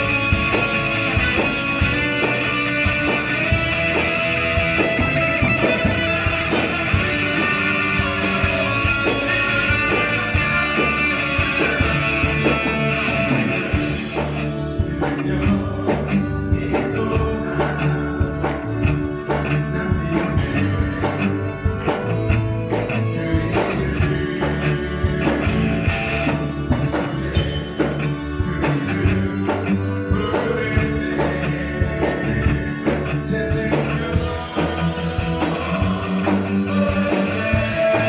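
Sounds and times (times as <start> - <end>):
drums steady beat: 0.0 - 38.0
electric guitar playing: 0.0 - 38.0
worship band playing: 0.0 - 38.0.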